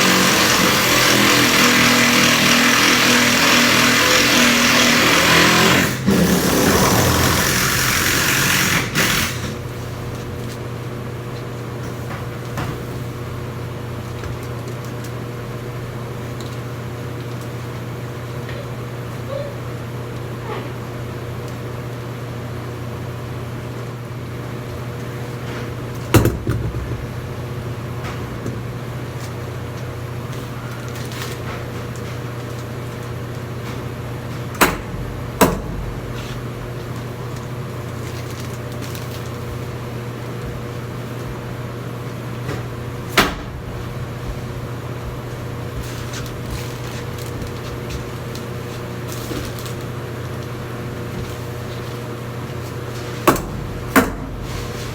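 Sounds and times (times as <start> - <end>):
low mechanical hum: 0.0 - 54.9.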